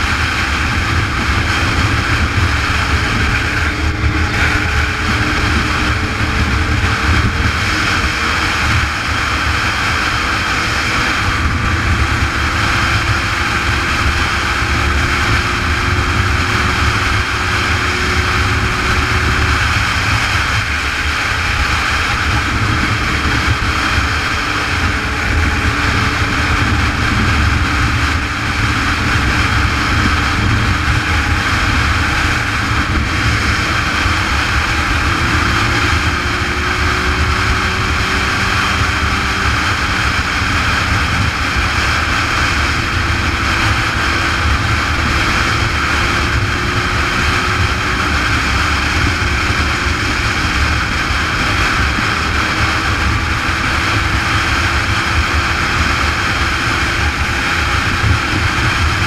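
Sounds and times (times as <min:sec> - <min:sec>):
motorcycle engine hum: 0:00.0 - 0:59.0
wind rushing on helmet: 0:00.0 - 0:59.0.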